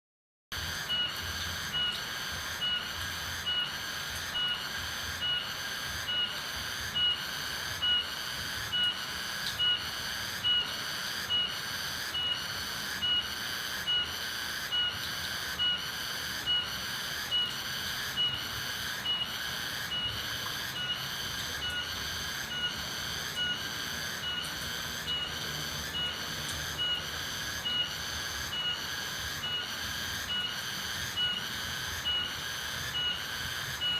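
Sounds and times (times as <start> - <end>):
steady high hiss: 0.6 - 33.9.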